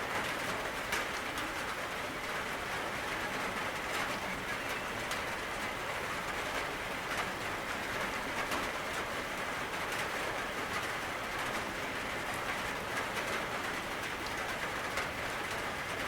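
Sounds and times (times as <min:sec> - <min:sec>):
raindrop ticks: 0:00.1 - 0:16.0.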